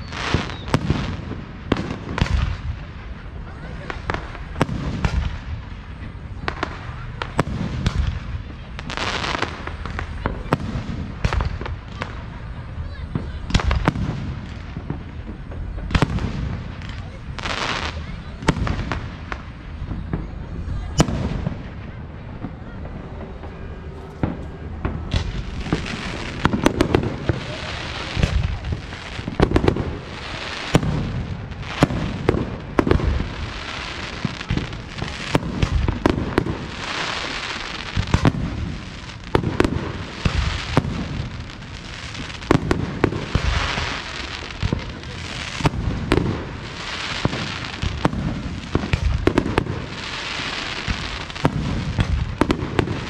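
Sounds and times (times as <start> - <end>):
fireworks bangs: 0.0 - 53.0
fireworks hiss: 0.0 - 53.0.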